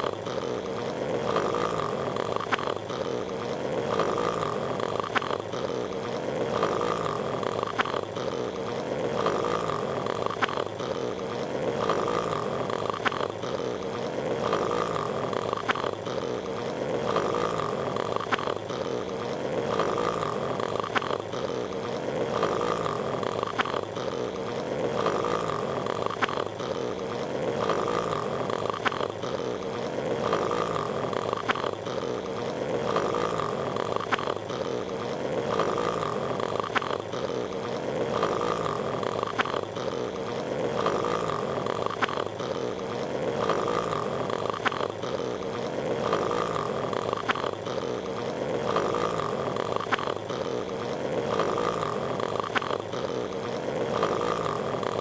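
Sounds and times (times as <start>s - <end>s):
cartoon snoring: 0.0s - 55.0s.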